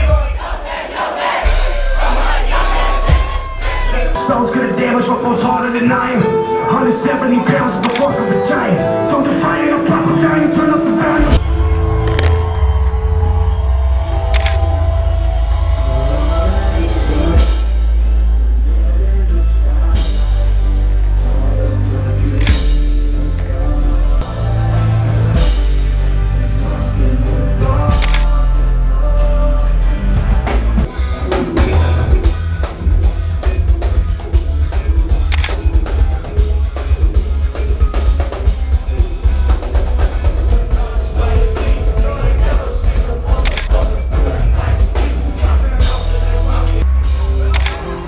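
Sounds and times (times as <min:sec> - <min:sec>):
live band music: 0:01.4 - 0:48.0.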